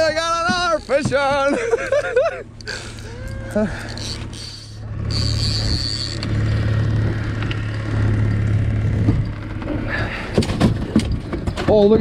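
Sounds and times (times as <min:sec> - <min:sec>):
outboard motor humming: 0:00.0 - 0:11.4.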